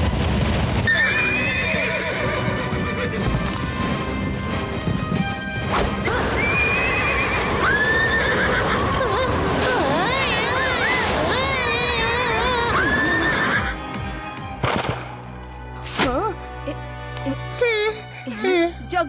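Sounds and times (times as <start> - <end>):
dramatic background music: 0.0 - 19.0.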